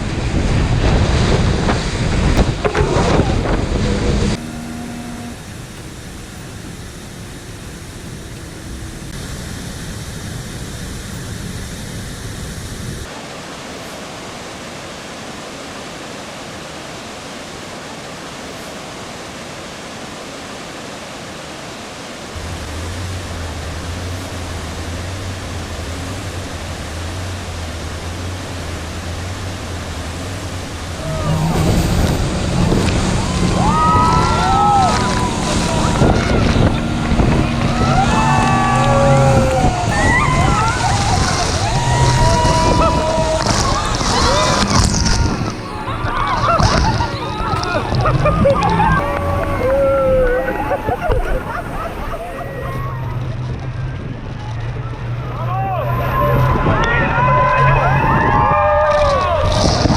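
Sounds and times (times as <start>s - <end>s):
low hum: 0.0s - 13.1s, 22.4s - 58.9s
wind buffeting microphone: 0.0s - 13.1s, 22.4s - 59.9s
rushing water: 0.0s - 59.9s.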